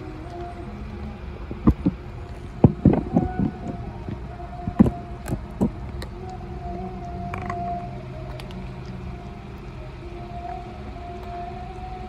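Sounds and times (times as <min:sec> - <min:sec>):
cat chewing and licking: 0:00.0 - 0:12.0
steady wavering tone: 0:00.0 - 0:12.0.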